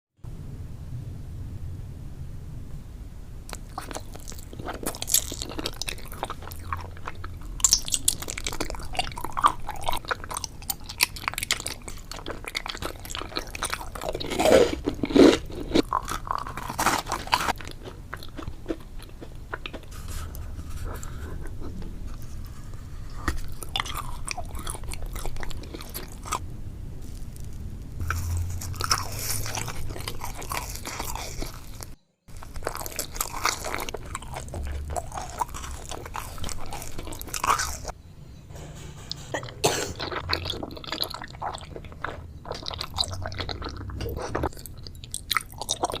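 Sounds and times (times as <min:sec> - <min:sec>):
crunchy chewing of food: 0:03.5 - 0:26.4, 0:27.0 - 0:38.0, 0:39.4 - 0:46.0.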